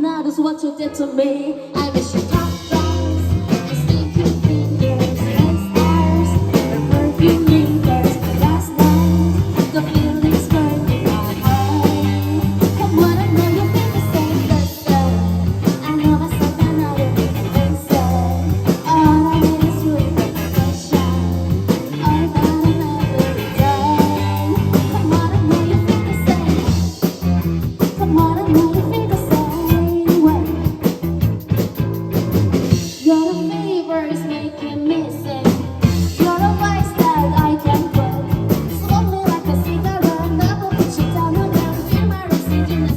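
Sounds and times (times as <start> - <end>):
person singing lead vocal: 0.0 - 27.0, 27.9 - 30.8, 32.9 - 42.9
rock band playing: 1.7 - 42.9.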